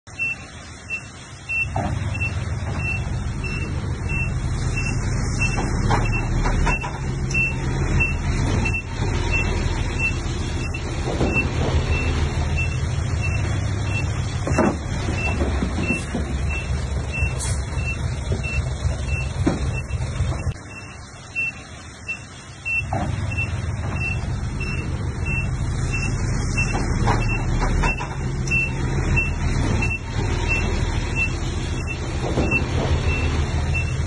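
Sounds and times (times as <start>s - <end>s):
diesel engine running: 0.1s - 34.0s
reversing alarm beeping: 0.1s - 34.0s.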